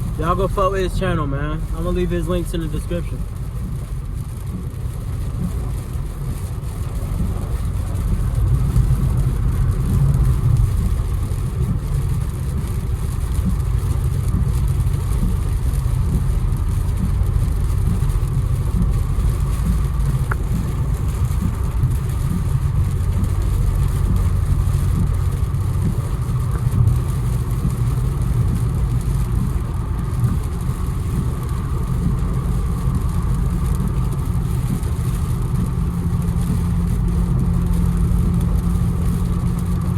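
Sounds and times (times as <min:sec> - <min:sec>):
car engine accelerating: 0:00.0 - 0:39.9
road noise inside car: 0:00.0 - 0:39.9.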